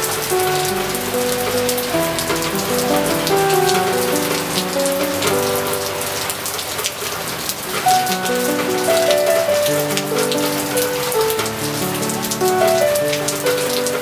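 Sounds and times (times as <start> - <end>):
slow piano melody: 0.0 - 14.0
steady rain falling: 0.0 - 14.0.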